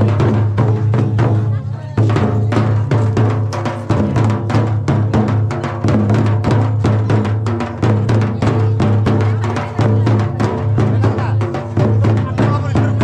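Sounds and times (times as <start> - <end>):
drums playing fast dance rhythm: 0.0 - 13.0.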